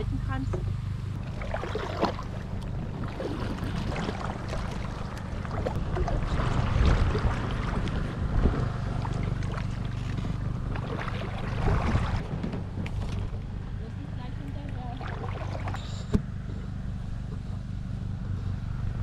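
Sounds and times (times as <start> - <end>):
wind rumbling on microphone: 0.0 - 15.5
paddle water splashes: 0.6 - 16.3.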